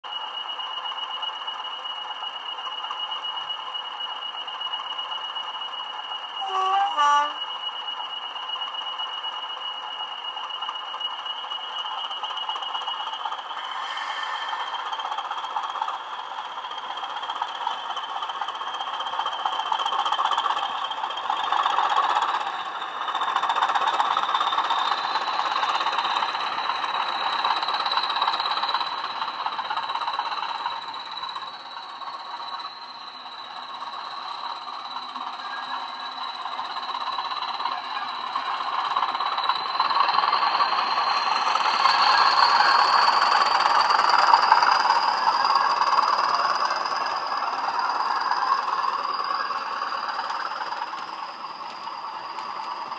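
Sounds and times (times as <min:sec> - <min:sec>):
turbocharger whistle: 0:00.1 - 0:52.9.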